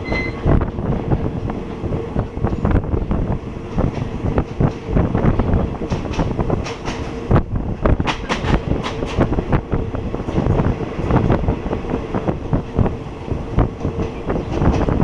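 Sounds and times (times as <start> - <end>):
train wheels rumbling: 0.0 - 15.0
wheels clacking over rail joints: 0.0 - 15.0.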